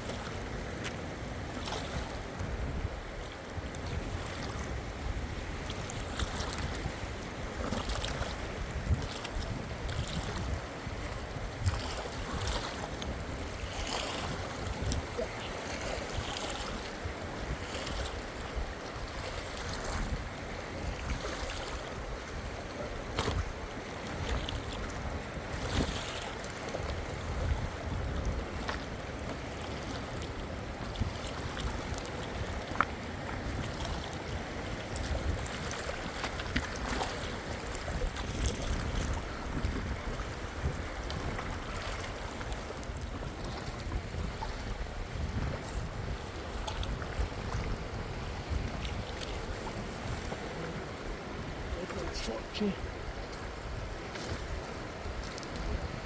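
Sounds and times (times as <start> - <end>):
water washing and lapping: 0.0 - 56.0
wind buffeting microphone: 0.0 - 56.0.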